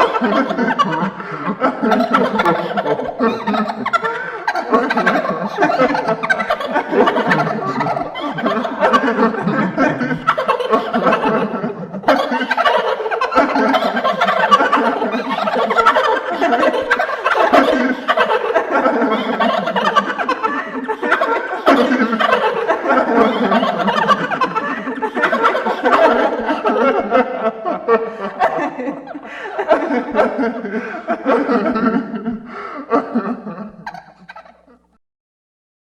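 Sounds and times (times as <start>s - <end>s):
ghostly voices cackling: 0.0s - 35.0s.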